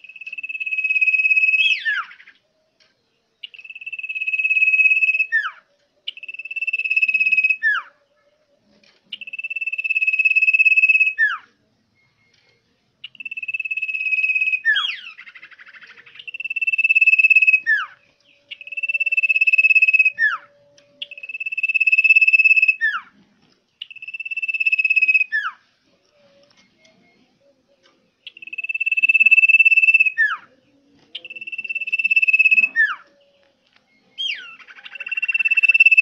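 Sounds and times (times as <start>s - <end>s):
bird whistling: 0.0s - 2.4s, 3.4s - 8.0s, 9.1s - 11.6s, 13.0s - 23.2s, 23.8s - 25.6s, 26.7s - 36.0s.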